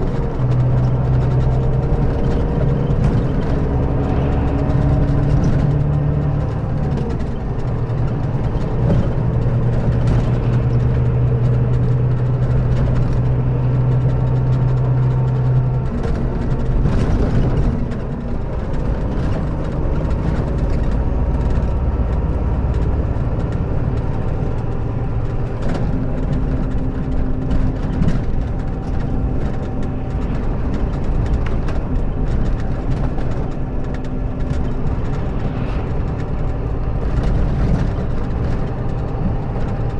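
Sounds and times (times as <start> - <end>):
diesel coach engine running: 0.0 - 39.9.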